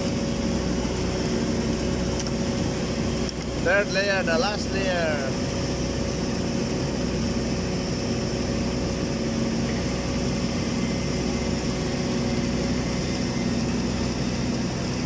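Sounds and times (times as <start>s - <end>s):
welding machine hum: 0.0s - 15.0s.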